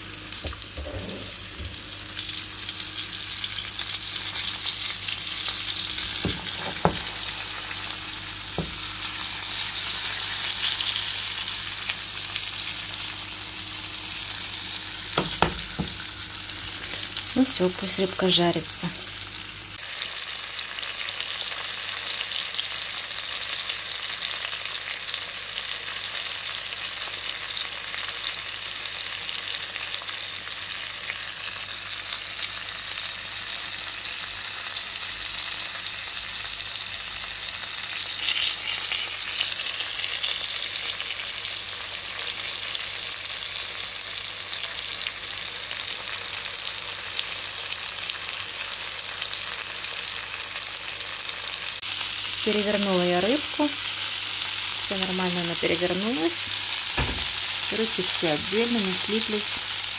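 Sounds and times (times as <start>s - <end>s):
fish frying in oil: 0.0s - 59.9s.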